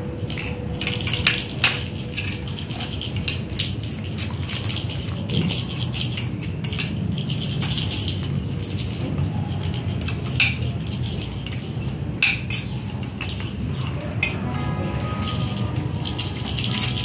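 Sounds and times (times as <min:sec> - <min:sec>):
small bell jingling: 0:00.2 - 0:17.0.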